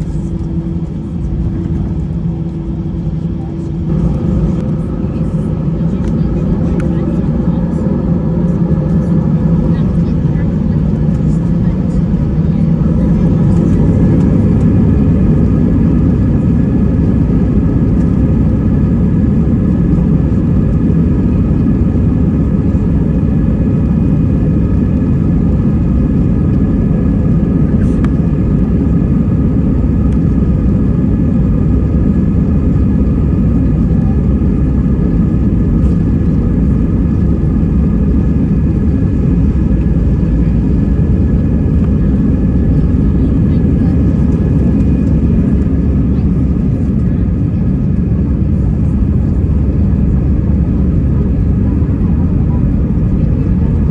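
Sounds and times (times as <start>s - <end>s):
jet engine and airflow rumble: 0.0s - 53.9s.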